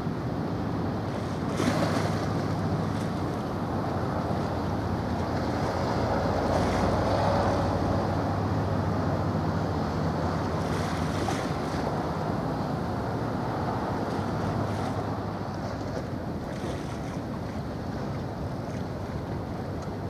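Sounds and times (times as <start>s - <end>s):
choppy water: 0.0s - 20.0s
low ship engine drone: 0.0s - 20.0s.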